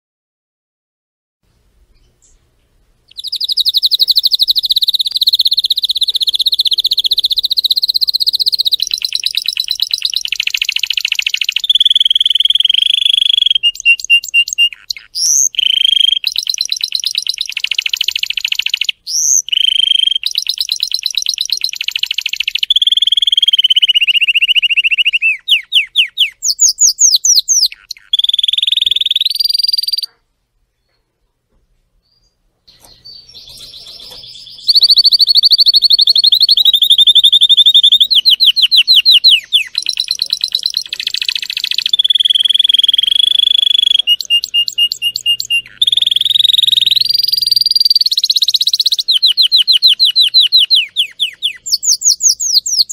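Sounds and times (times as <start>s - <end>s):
canary singing trills: 3.1s - 30.2s, 32.0s - 52.9s.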